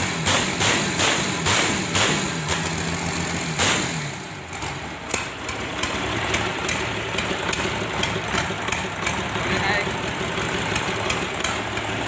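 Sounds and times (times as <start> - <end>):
diesel engine idling: 2.2 - 12.0.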